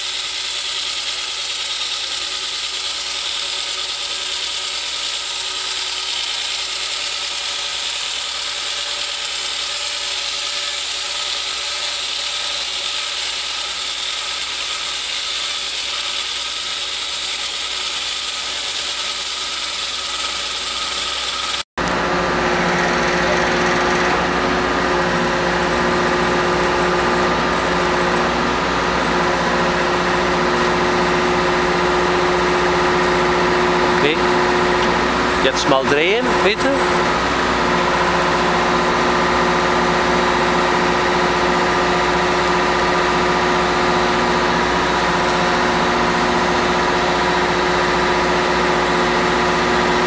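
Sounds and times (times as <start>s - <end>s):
saw blade cutting concrete: 0.0s - 21.7s, 22.4s - 50.0s
machine engine and hydraulics humming: 0.0s - 50.0s.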